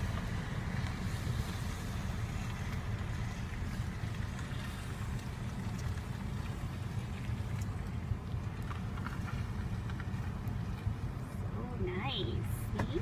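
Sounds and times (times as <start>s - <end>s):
car idling from inside: 0.0s - 13.0s.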